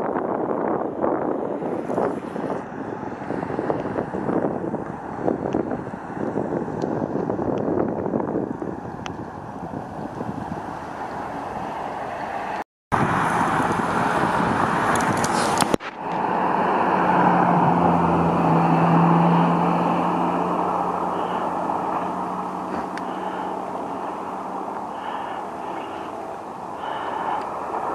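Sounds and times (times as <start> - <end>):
steady traffic wash: 0.0 - 27.9
wind noise: 0.0 - 27.9
vehicle passing by: 1.1 - 27.9.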